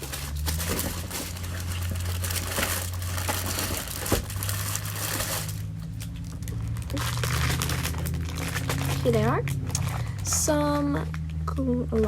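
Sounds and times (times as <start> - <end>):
plastic bags crinkling: 0.0 - 12.0
steady low hum: 0.0 - 12.0.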